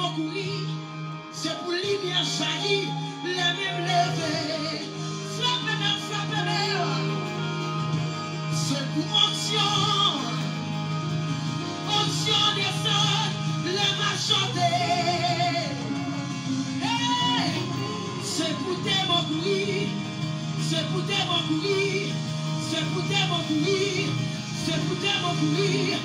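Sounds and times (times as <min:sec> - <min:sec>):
woman singing into microphone: 0:00.0 - 0:07.9, 0:08.5 - 0:10.6, 0:11.9 - 0:26.0
instrumental backing: 0:00.0 - 0:26.0.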